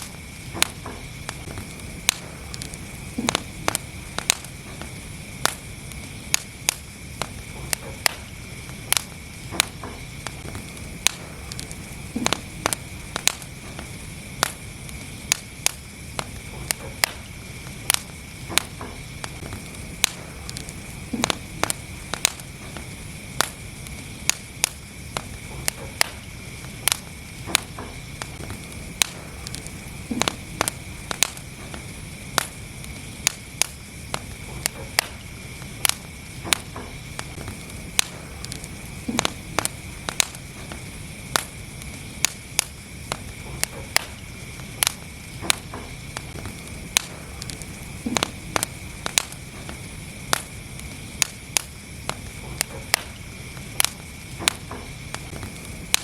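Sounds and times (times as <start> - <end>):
faint high hiss: 0.0 - 56.0
low rumble of flames: 0.0 - 56.0
wood fire crackling and popping: 0.0 - 56.0.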